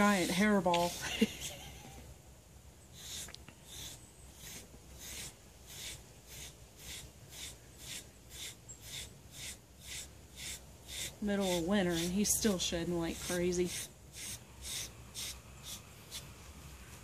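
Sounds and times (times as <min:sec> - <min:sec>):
deshedding blade scratching dog fur: 0:00.0 - 0:01.3, 0:03.0 - 0:16.3.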